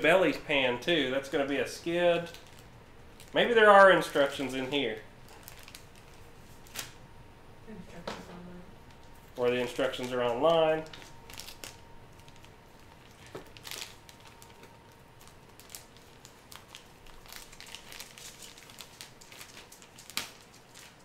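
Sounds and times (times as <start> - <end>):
plastic wrapping crinkling: 1.2 - 7.0, 8.8 - 21.0.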